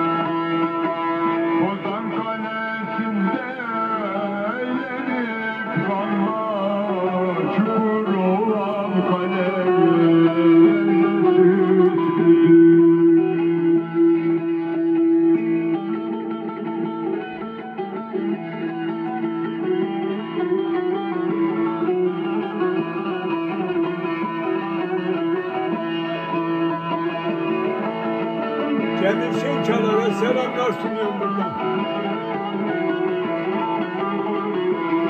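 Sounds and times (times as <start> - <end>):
plucked lute melody over drone: 0.0 - 35.0.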